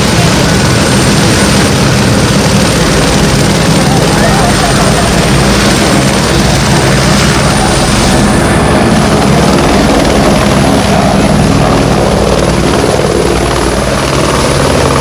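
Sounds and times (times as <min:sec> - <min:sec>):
helicopter engine roar: 0:00.0 - 0:15.0
high turbine whine: 0:00.0 - 0:15.0.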